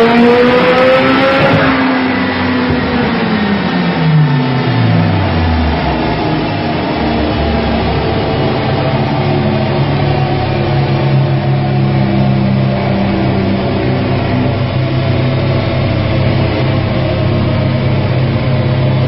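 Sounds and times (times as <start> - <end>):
car engine running steadily: 0.0 - 19.0.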